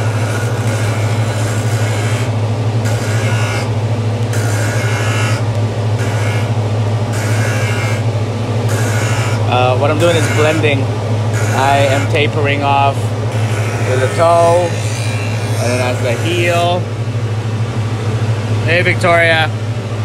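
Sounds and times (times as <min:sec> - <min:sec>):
grinding rasp on steel: 0:00.0 - 0:08.1, 0:08.7 - 0:16.9
motor hum: 0:00.0 - 0:20.0.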